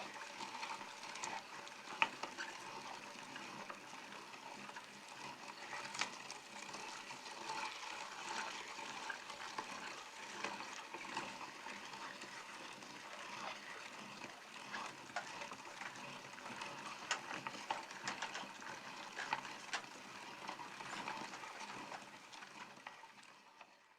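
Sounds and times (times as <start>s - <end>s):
meat grinder squelching: 0.0s - 23.9s.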